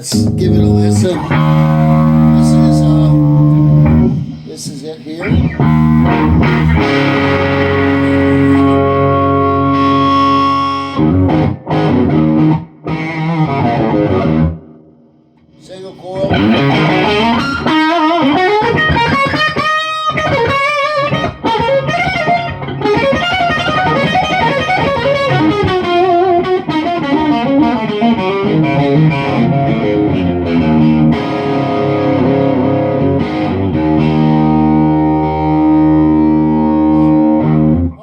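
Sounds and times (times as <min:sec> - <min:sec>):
distorted electric guitar: 0:00.0 - 0:38.0.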